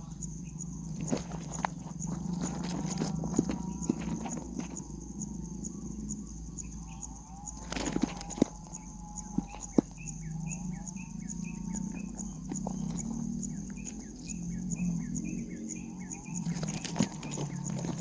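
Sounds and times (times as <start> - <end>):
bird chirping: 0.0 - 18.0
high insect whine: 0.0 - 18.0.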